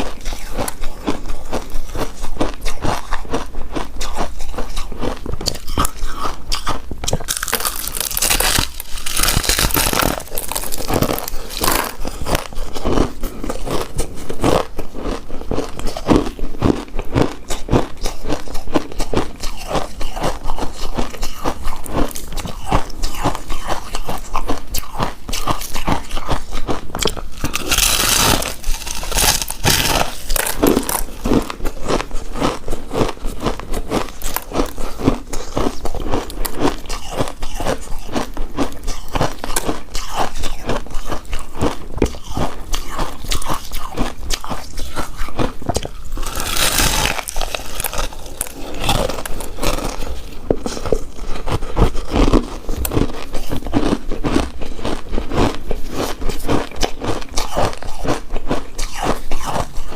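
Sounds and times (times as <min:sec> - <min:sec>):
chewing with mouth clicks: 0:00.0 - 0:59.9.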